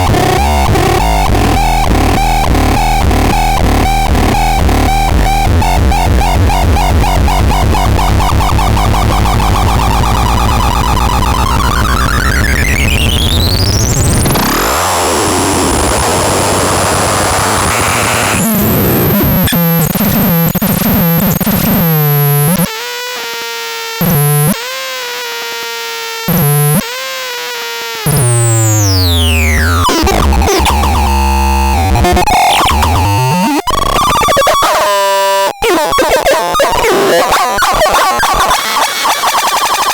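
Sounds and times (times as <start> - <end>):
harsh buzzy synthesizer: 0.0 - 39.9.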